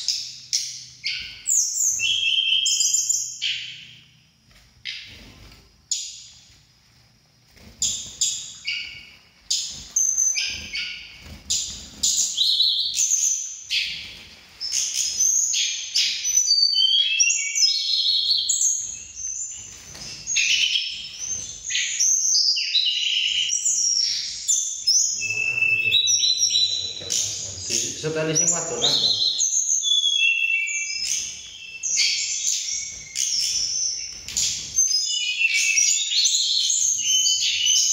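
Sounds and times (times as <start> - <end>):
birds singing whistled phrases: 0.0 - 4.2, 7.8 - 37.9.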